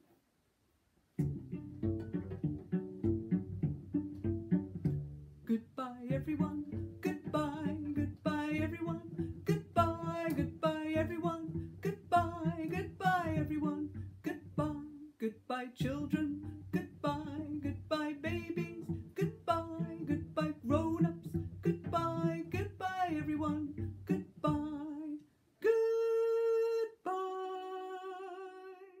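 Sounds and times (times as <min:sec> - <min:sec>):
cello pizzicato: 0:01.2 - 0:28.8
woman singing: 0:05.5 - 0:29.0.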